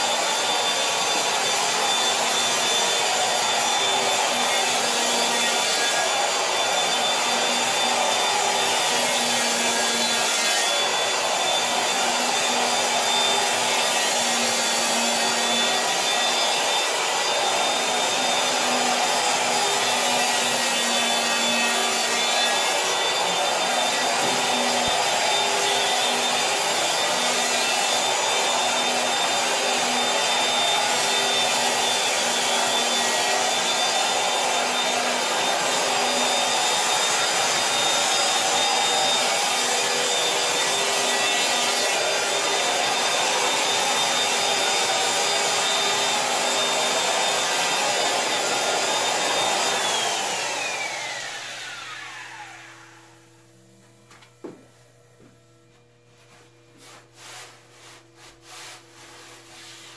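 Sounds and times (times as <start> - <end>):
electric power planer running: 0.1 - 53.1.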